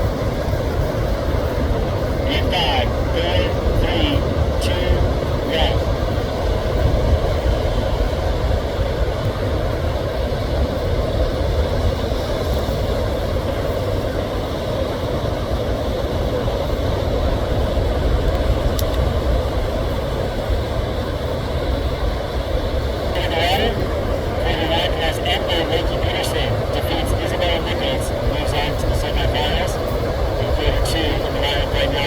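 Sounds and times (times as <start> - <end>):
low rumbling noise: 0.0 - 12.4, 13.0 - 32.0.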